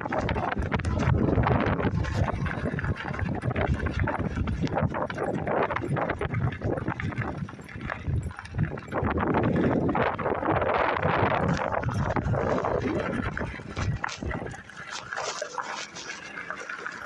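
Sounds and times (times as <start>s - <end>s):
microphone rustling and scraping: 0.0s - 16.8s
wind buffeting: 0.0s - 16.8s.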